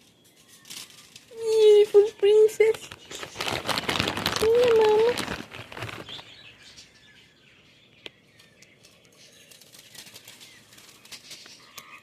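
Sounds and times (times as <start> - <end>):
faint bird chirps: 0.0 - 3.6, 5.2 - 12.0.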